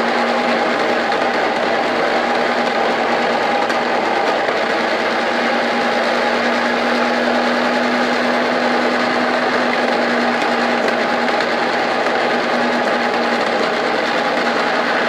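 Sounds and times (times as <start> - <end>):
electric machine motor humming: 0.0 - 15.0.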